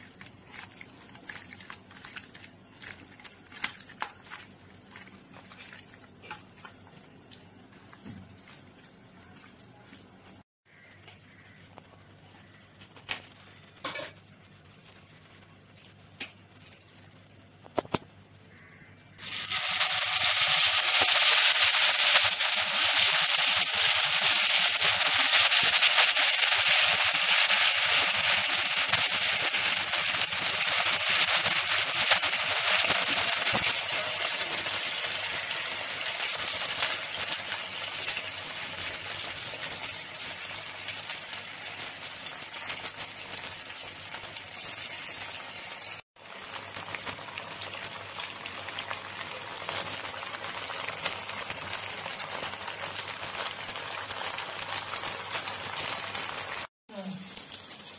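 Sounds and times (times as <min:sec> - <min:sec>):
chicken sizzling in hot oil: 0:00.0 - 0:10.9, 0:18.6 - 0:57.9.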